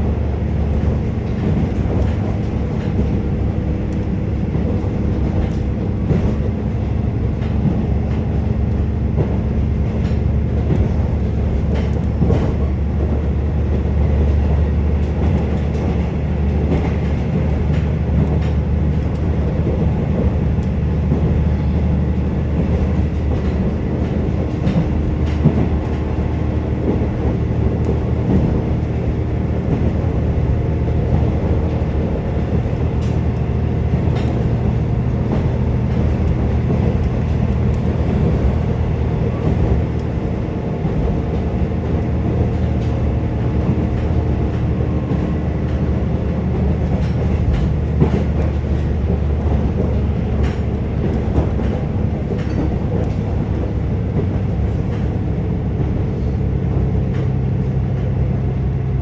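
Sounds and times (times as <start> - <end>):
rail joint clicks: 0.0 - 59.0
train wheels rumbling on rails: 0.0 - 59.0.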